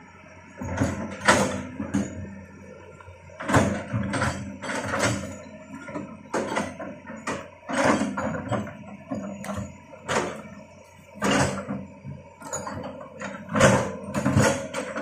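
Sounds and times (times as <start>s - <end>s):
excavator engine hum: 0.0s - 15.0s.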